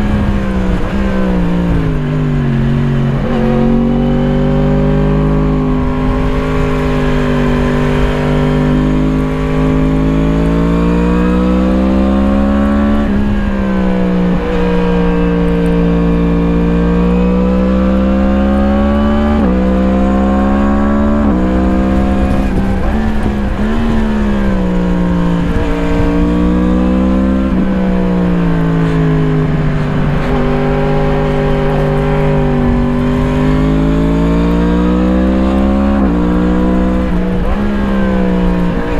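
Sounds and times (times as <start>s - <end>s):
motorcycle engine revving: 0.0s - 38.9s
road rumble: 0.0s - 38.9s
wind noise: 0.0s - 38.9s.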